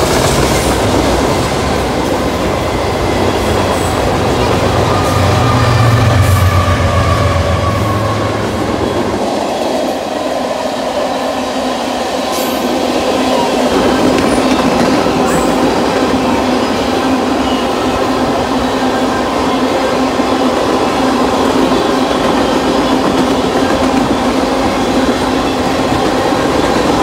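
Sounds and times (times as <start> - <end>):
diesel locomotive engine drone: 0.0 - 27.0
train cars rolling on rails: 0.0 - 27.0.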